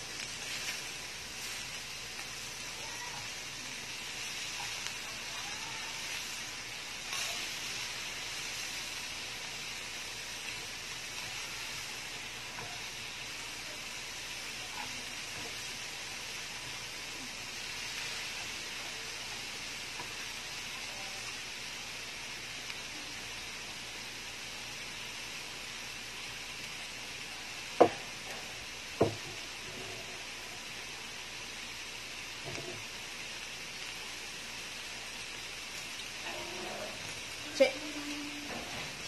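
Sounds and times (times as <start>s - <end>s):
chicken sizzling on grill pan: 0.0s - 39.0s.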